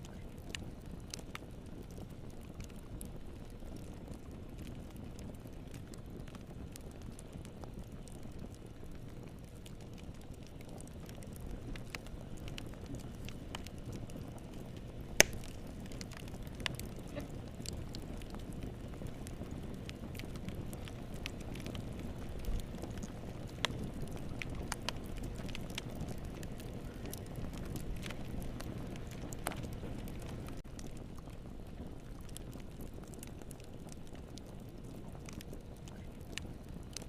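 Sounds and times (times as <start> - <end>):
fire snapping and popping: 0.0 - 37.0
low rumble of fire: 0.0 - 37.0.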